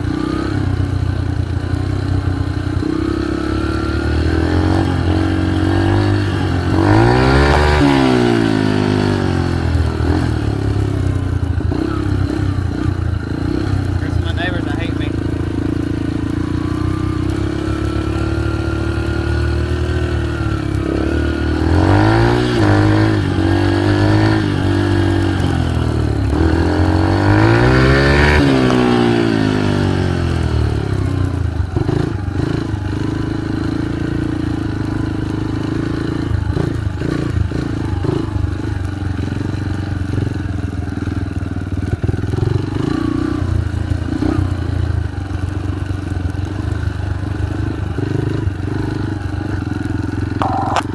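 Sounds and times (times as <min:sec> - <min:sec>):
vehicle engine revving: 0:00.0 - 0:39.4, 0:41.8 - 0:45.5, 0:47.3 - 0:50.9.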